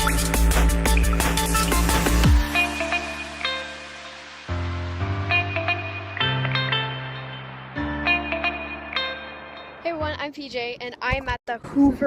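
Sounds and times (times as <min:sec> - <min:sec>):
plucked guitar notes: 0:00.0 - 0:10.3.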